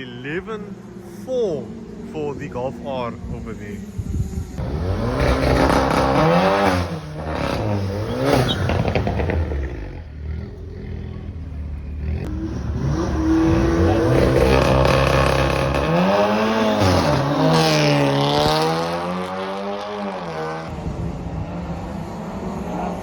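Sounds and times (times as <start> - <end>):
drag racing cars accelerating: 4.6 - 23.0.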